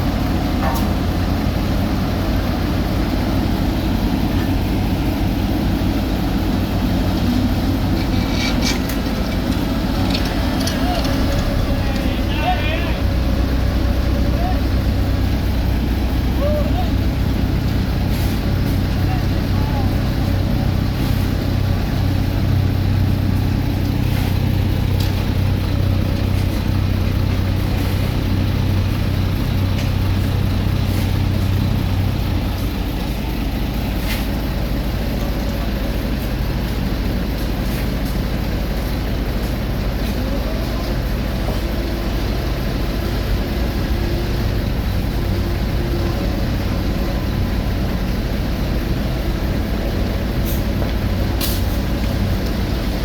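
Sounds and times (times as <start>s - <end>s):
heavy machinery engines humming: 0.0s - 53.0s.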